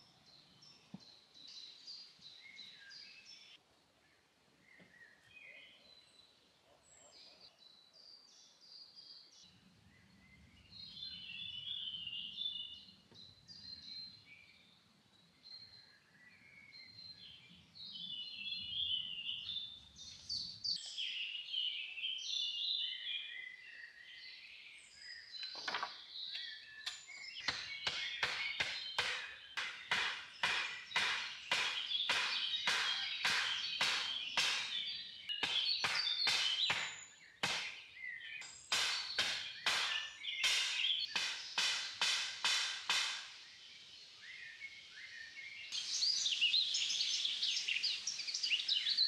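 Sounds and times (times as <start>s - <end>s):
songbirds chirping and singing: 0.0s - 49.0s.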